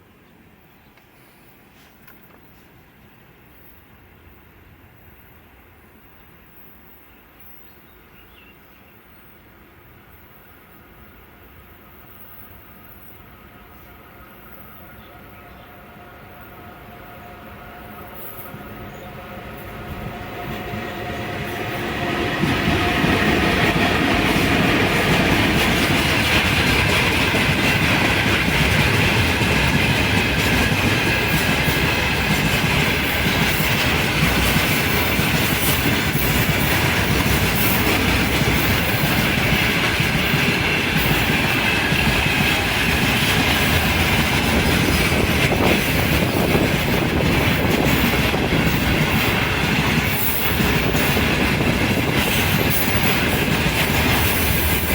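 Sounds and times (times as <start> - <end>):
freight train passing: 0.0 - 54.9.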